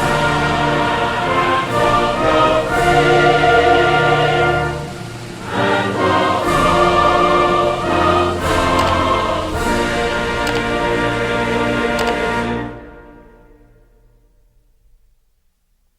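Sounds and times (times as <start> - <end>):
choir singing: 0.0 - 13.9
orchestral music: 0.0 - 14.7.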